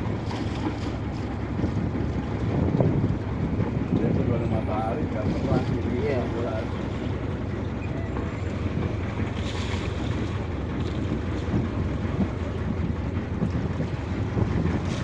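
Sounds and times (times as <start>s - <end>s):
boat engine low rumble: 0.0s - 15.0s
water washing around boat: 0.0s - 15.0s
wind buffeting microphone: 0.0s - 15.0s.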